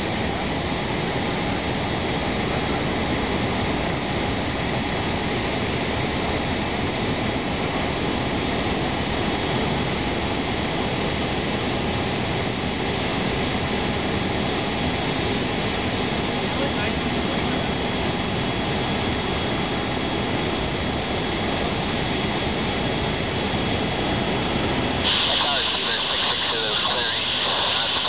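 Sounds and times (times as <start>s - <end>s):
jet engine rush and whine: 0.0s - 28.0s.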